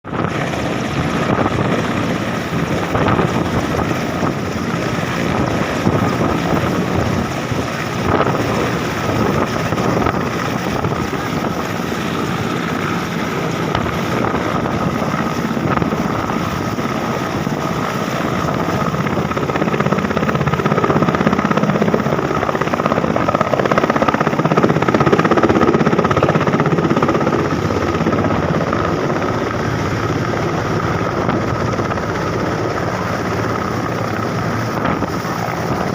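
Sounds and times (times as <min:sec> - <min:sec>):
helicopter turbine and rotor: 0:00.0 - 0:35.9.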